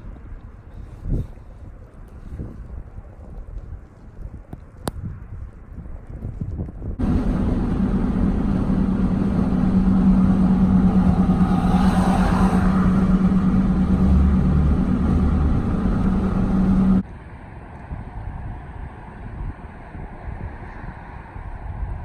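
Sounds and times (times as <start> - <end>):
motor vehicle engine hum: 0.0 - 22.0
wind-like rush: 0.0 - 22.0.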